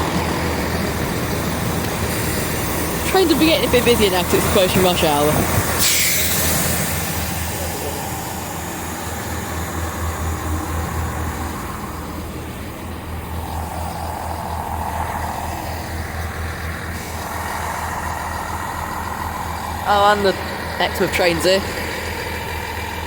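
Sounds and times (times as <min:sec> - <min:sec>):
diesel train engines throbbing: 0:00.0 - 0:23.0.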